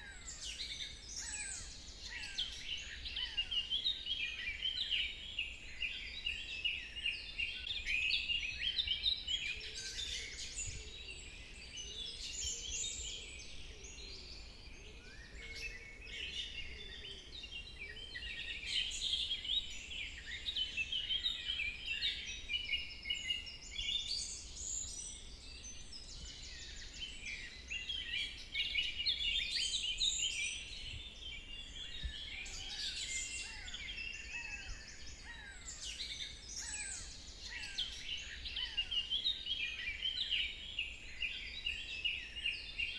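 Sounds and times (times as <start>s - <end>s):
birds chirping and singing: 0.0s - 42.9s.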